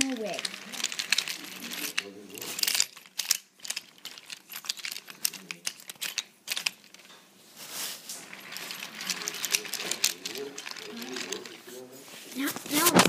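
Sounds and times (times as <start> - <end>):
wooden toy train clattering: 0.0 - 7.2, 8.2 - 13.0.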